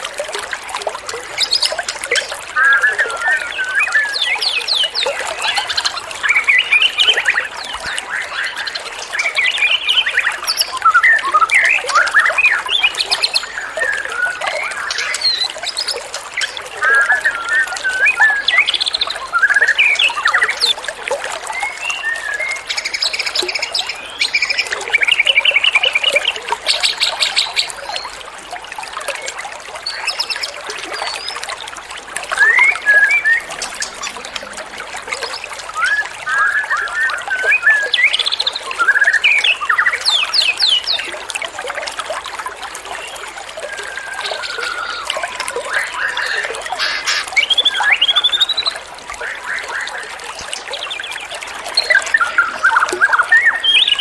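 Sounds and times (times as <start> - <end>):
running water trickling: 0.0 - 54.0
songbirds singing: 1.2 - 28.2, 29.1 - 31.6, 32.3 - 41.2, 42.8 - 54.0.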